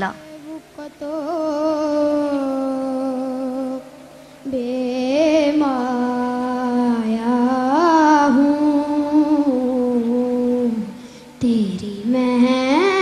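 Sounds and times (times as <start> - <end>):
boy singing devotional song: 0.0 - 13.0.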